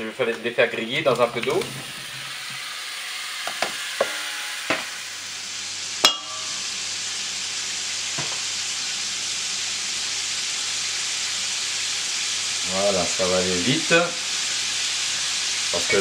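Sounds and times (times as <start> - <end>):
sausages sizzling: 0.0 - 16.0.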